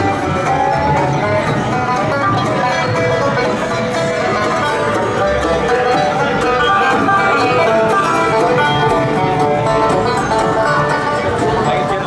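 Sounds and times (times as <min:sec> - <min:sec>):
bluegrass music with banjo and guitar: 0:00.0 - 0:12.0.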